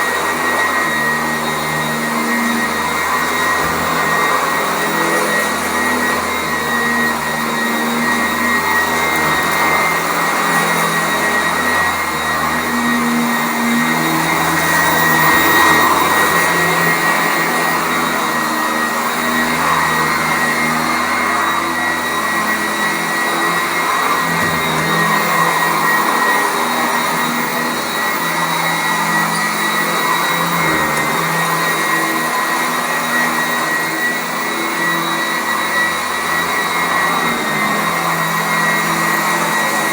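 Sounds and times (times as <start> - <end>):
upright vacuum running on carpet: 0.0 - 39.9.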